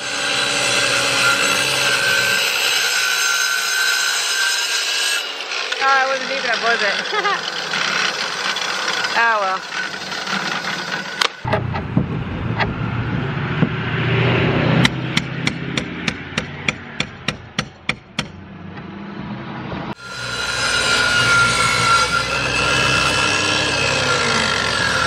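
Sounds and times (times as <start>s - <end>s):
circular saw cutting wood: 0.0s - 18.4s, 19.9s - 25.0s.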